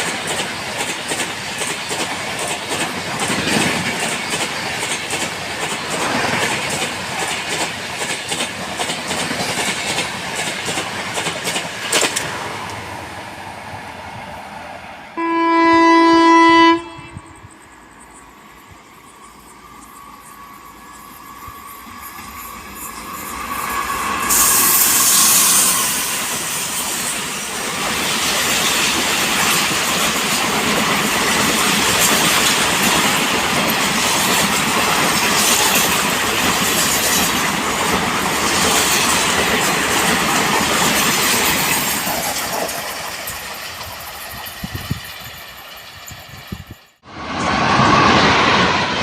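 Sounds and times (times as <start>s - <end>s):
train passing at speed: 0.0s - 49.0s.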